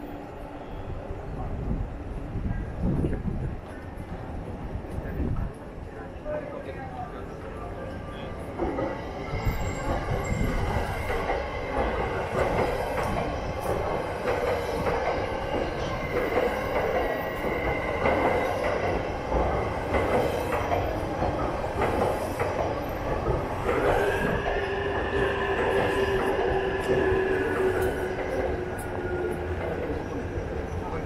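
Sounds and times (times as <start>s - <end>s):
train wheels rumbling on rails: 1.0s - 31.0s.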